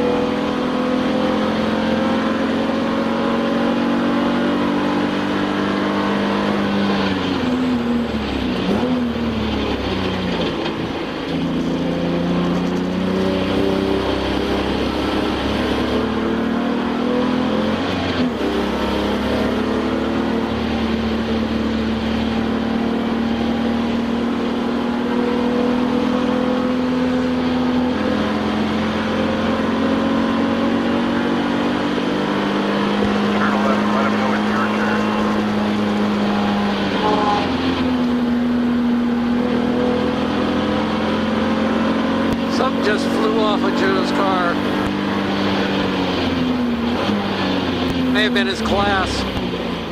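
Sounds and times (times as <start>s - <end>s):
race car engine at full throttle: 0.0s - 49.9s.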